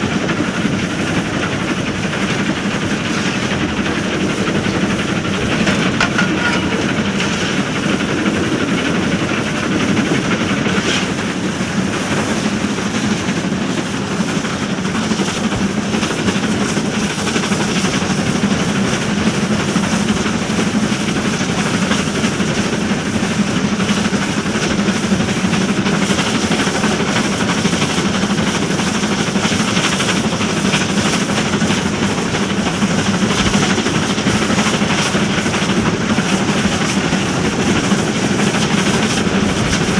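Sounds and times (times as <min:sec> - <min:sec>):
steam train rumbling: 0:00.0 - 0:39.9
wheels clattering on rail joints: 0:00.1 - 0:22.7, 0:24.0 - 0:39.9.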